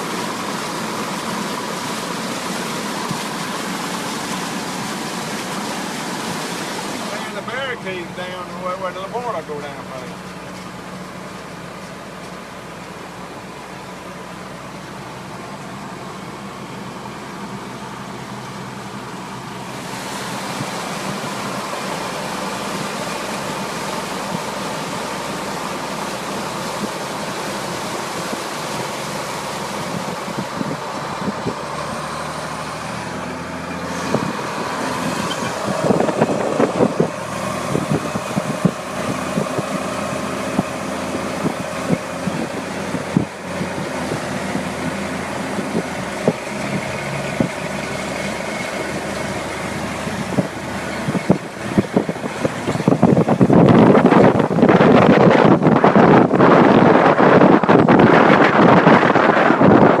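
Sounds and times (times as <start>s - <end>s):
road and wind noise: 0.0s - 60.0s
truck engine hum: 0.0s - 60.0s.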